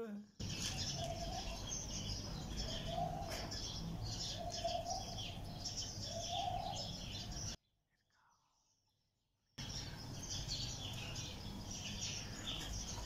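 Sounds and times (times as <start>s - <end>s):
birds chirping: 0.0s - 8.6s, 9.6s - 13.0s.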